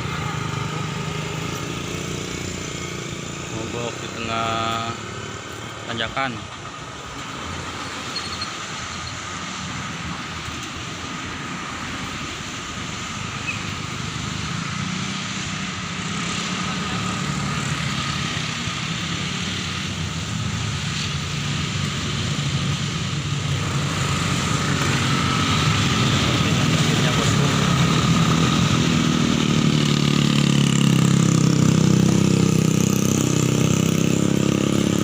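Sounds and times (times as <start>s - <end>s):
heavy vehicle engine droning: 0.0s - 13.3s, 14.0s - 35.0s.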